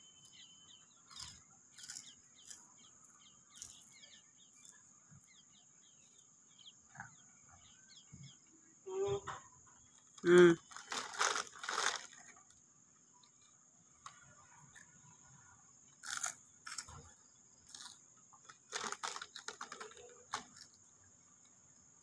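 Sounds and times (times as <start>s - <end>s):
insect trill: 0.0s - 6.9s, 9.7s - 22.0s.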